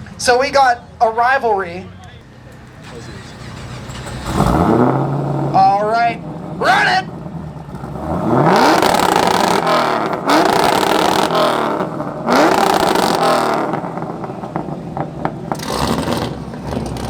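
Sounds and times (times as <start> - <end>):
car engine revving: 1.6 - 17.0
exhaust pops: 2.5 - 17.0.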